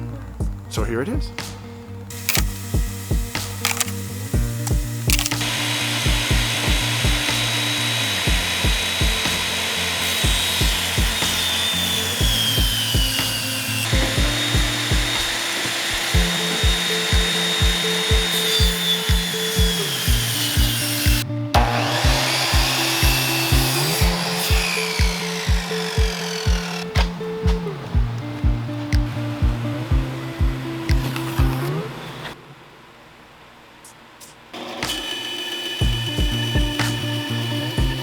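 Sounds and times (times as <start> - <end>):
background music with steady beat: 0.0 - 32.0, 34.2 - 38.0
power saw cutting wood: 2.1 - 32.4, 34.6 - 38.0.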